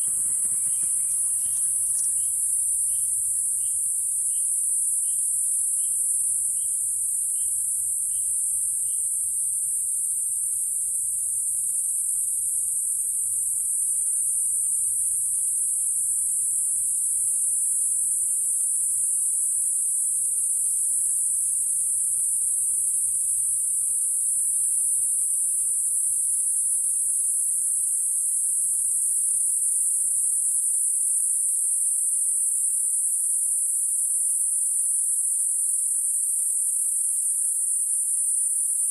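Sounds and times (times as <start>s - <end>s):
insects buzzing in trees: 0.0s - 38.9s.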